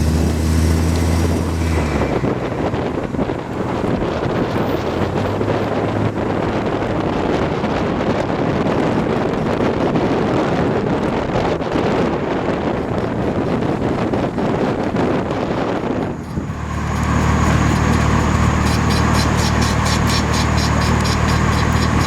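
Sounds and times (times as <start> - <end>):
car road noise: 0.0 - 22.0.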